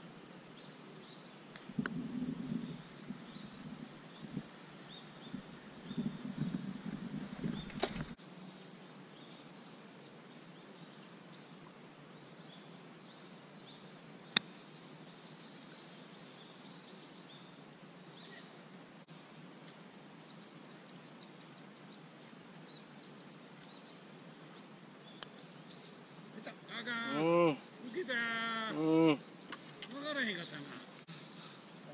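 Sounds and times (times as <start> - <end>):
faint outdoor ambience: 0.0 - 31.9
small birds chirping: 0.5 - 18.7, 20.0 - 31.9.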